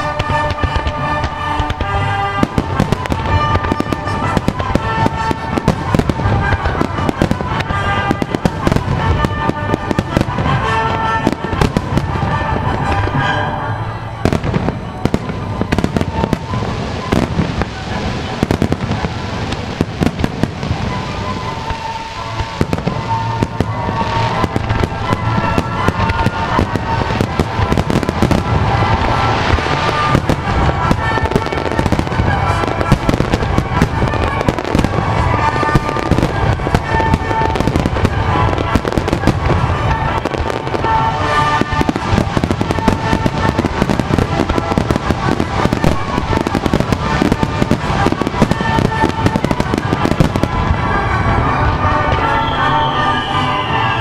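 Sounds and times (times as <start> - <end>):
fireworks bursting: 0.0 - 54.0
music over loudspeakers: 0.0 - 54.0.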